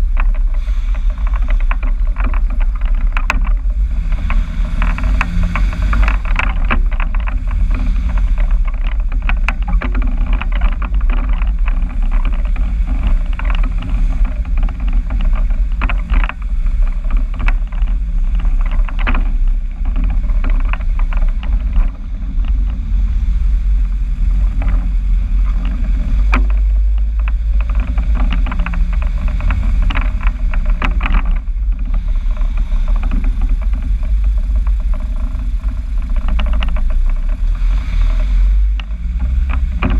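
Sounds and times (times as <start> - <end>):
short clicks and rattles: 0.0 - 39.9
vehicle engine rumbling: 0.0 - 39.9.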